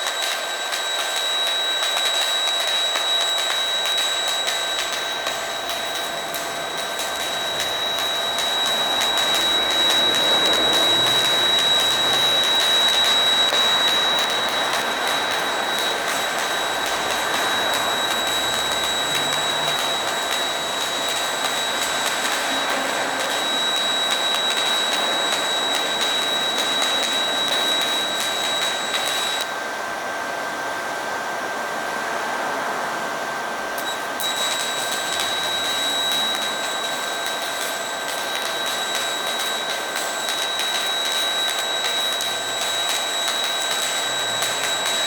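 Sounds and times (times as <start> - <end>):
welding arc crackling hiss: 0.0 - 29.6, 33.8 - 45.0
thin high whine: 0.0 - 29.8, 33.8 - 45.0.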